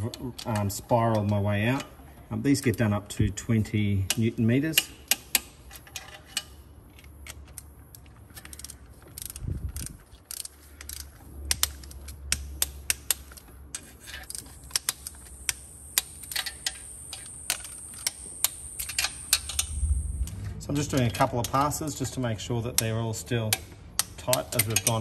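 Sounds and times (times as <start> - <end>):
ratchet wrench clicking: 4.1 - 25.0.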